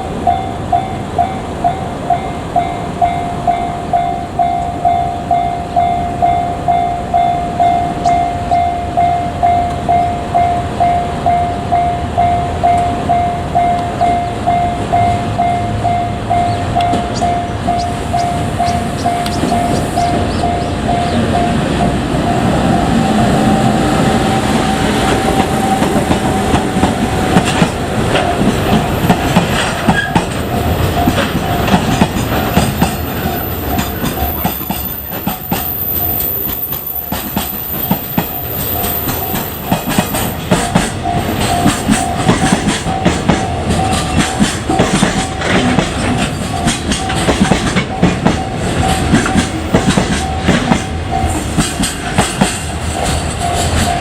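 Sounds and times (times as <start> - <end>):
freight train rolling past: 0.0 - 54.0
level crossing warning bell: 0.0 - 54.0
train wheels clacking on rails: 0.0 - 54.0.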